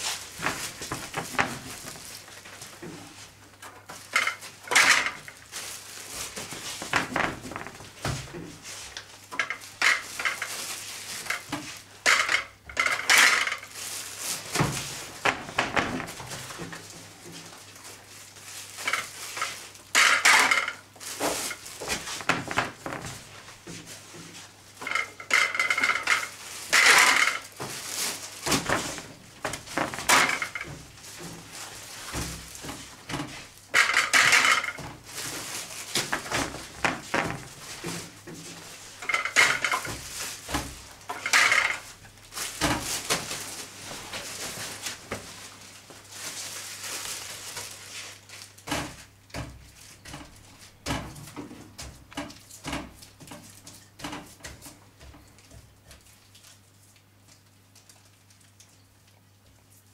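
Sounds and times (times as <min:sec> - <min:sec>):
plastic bags rustling: 0:00.0 - 0:58.6.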